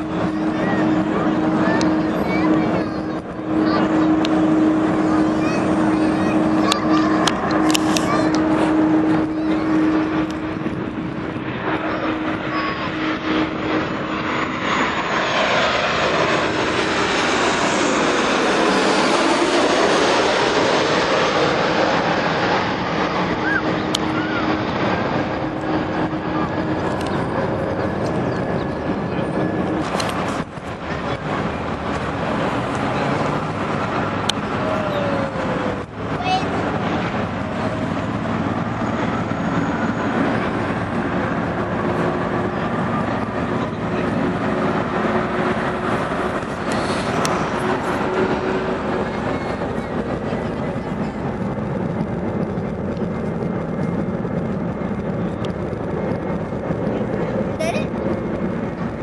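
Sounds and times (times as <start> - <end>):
passing vehicle engines: 0.0 - 59.0.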